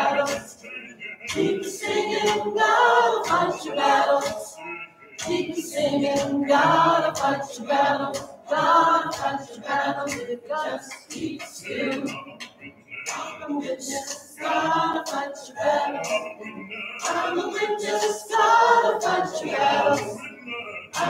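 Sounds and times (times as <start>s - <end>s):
choir singing unaccompanied: 0.0s - 21.0s.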